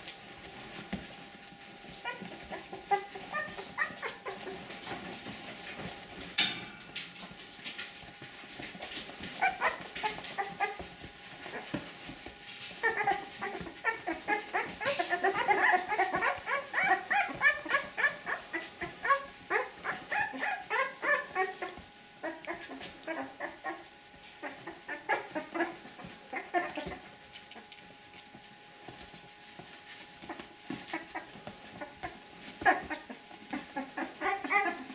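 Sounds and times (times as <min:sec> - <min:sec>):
puppies squeaking and whimpering: 0:01.8 - 0:05.9, 0:08.6 - 0:34.9.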